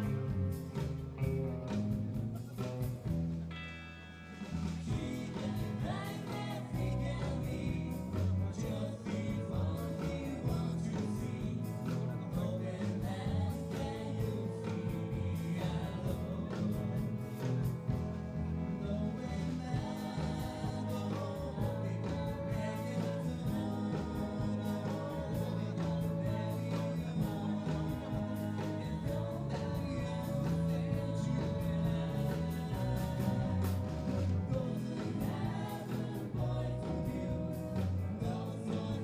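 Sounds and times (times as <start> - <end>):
drums: 0.0 - 39.0
guitar: 0.0 - 39.0
person singing: 4.5 - 17.7, 18.7 - 39.0.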